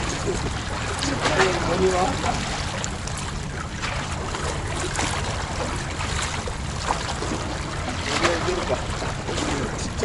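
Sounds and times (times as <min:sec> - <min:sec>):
sea water lapping against breakwater: 0:00.0 - 0:10.0.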